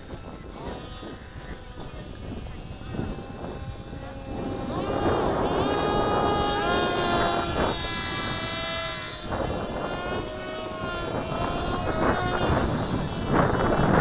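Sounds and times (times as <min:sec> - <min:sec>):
model airplane motor whining: 0:00.0 - 0:14.0.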